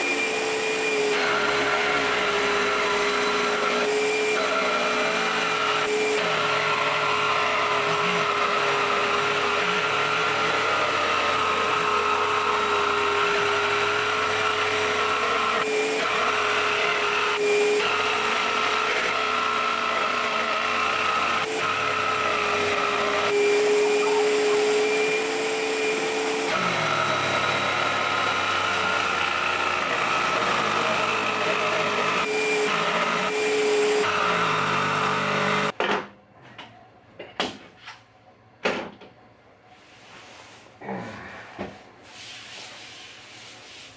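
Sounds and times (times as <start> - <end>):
jigsaw cutting wood: 0.0 - 35.8
shop vacuum whine: 0.0 - 35.8.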